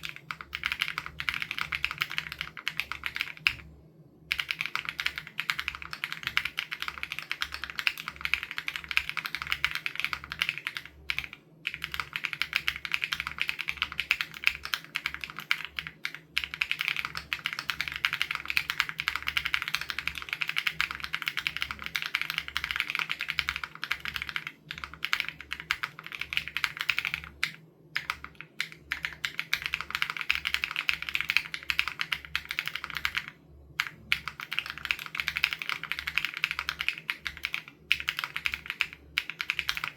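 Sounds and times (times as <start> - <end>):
mechanical keyboard typing: 0.0 - 3.6, 4.3 - 39.9.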